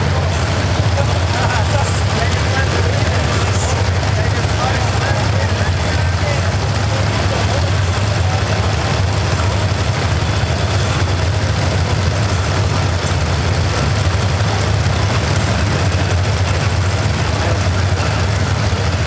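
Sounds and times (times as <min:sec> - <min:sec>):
engines idling: 0:00.0 - 0:19.0.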